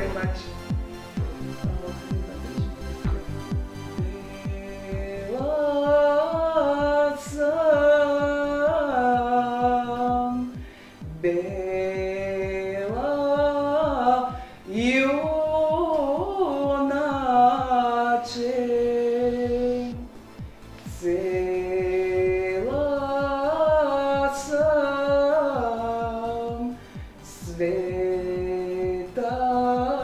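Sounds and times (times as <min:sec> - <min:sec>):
steady low beat: 0:00.0 - 0:30.0
person singing long held notes: 0:04.0 - 0:20.1, 0:20.9 - 0:30.0.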